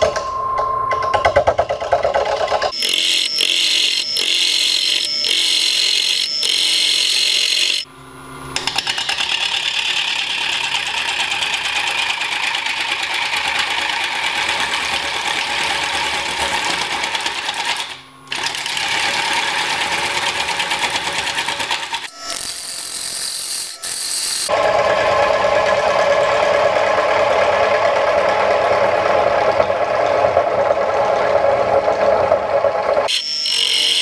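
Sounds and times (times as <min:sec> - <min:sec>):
lathe tool cutting wood: 0:02.3 - 0:07.9, 0:09.2 - 0:34.0.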